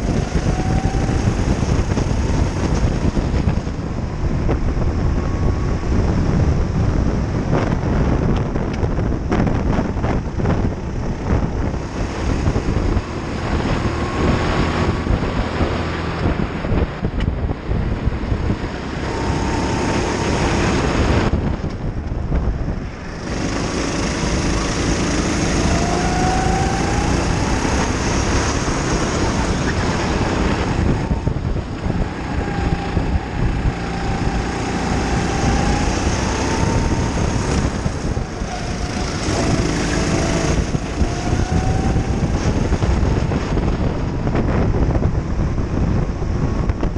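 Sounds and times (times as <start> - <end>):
kart engine revving: 0.0 - 8.2, 9.2 - 16.9, 17.6 - 21.3, 22.8 - 46.7
wind buffeting microphone: 0.0 - 46.9.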